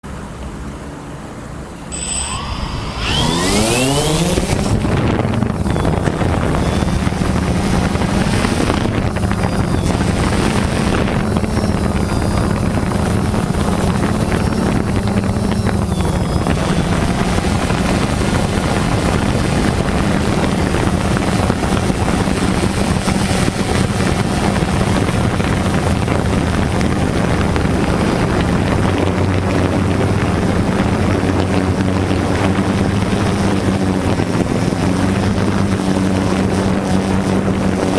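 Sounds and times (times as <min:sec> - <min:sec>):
drone propellers humming: 0:01.6 - 0:37.9.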